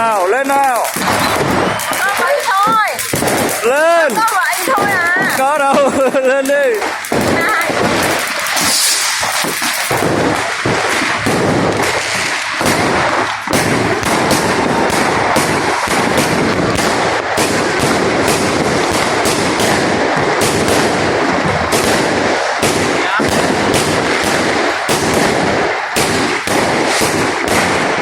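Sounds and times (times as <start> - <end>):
fireworks crackling: 0.0 - 28.0.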